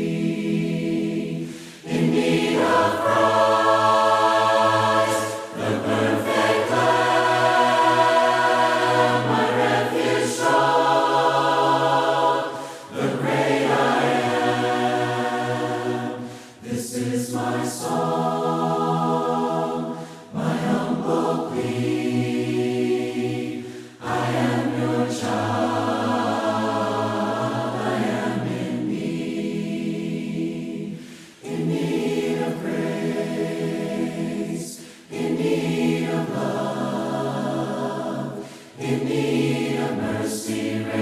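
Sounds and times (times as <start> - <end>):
choir singing a hymn: 0.0 - 41.0.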